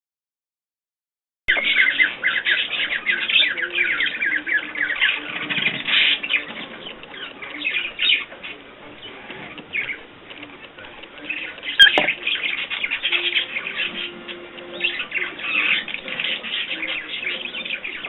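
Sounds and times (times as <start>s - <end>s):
small birds twittering and chirping: 1.5s - 18.0s.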